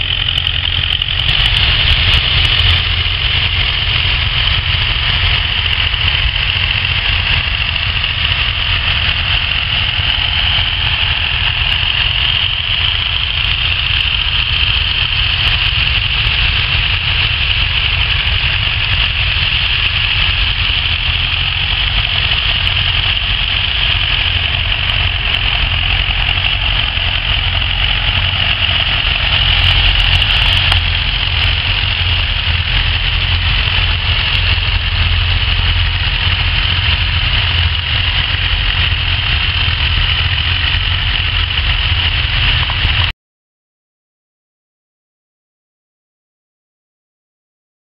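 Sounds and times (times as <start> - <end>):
tractor engines under load: 0.0 - 43.1.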